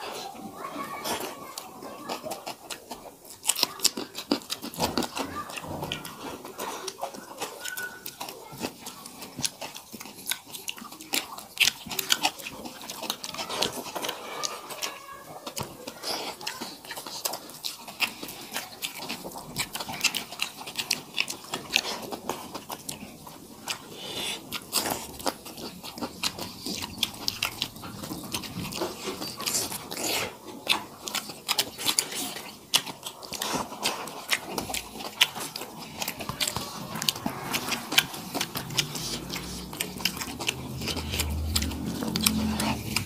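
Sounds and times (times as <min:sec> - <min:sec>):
chewing with mouth smacks: 0:00.0 - 0:43.0.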